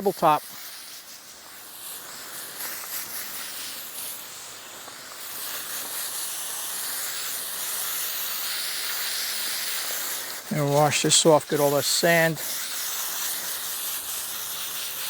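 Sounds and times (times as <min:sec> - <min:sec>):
water spraying from a hose: 0:00.0 - 0:15.0.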